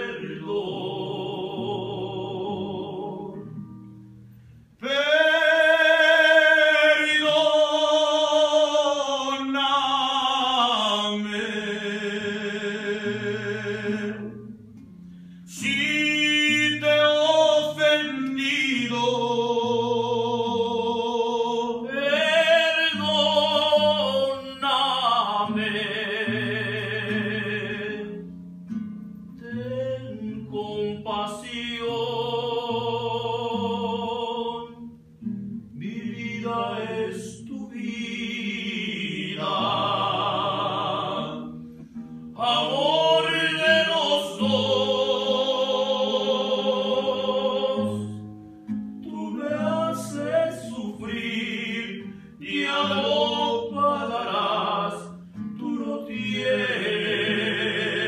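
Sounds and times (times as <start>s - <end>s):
men singing with vibrato: 0.0s - 3.5s, 4.8s - 14.5s, 15.5s - 28.2s, 29.4s - 34.8s, 35.8s - 41.5s, 42.4s - 48.2s, 49.0s - 58.0s.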